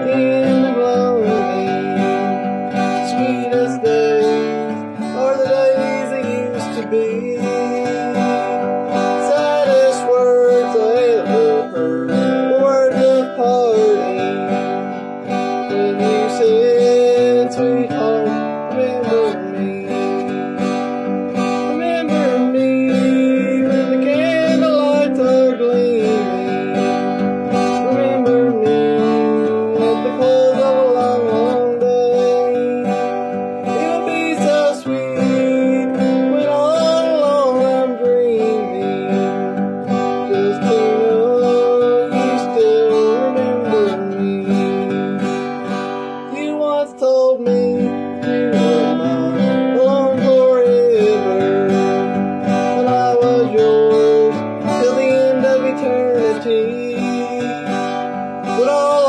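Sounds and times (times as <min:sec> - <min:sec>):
acoustic guitar strumming: 0:00.0 - 0:59.0
man singing: 0:00.0 - 0:59.0.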